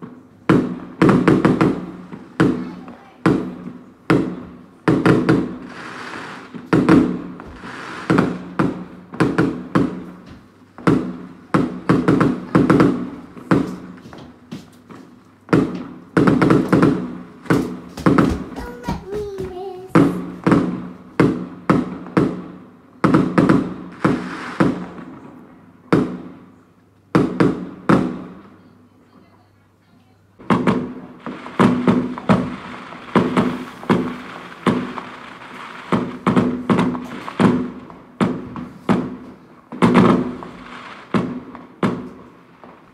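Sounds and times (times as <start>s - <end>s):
fireworks crackling: 0.0s - 28.6s, 30.4s - 42.9s
fireworks exploding: 0.0s - 29.3s, 30.4s - 42.9s.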